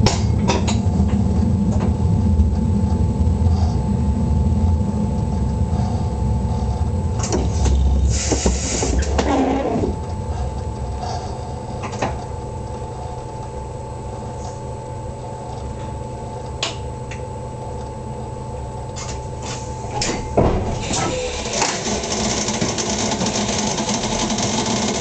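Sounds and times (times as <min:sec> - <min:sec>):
equipment humming: 0:00.0 - 0:25.0.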